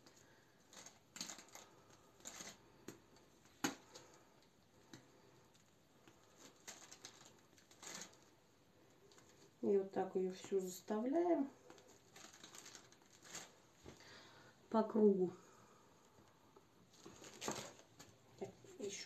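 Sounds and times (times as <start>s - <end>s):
plastic piping bag rustling: 0.0s - 14.0s, 16.8s - 19.0s.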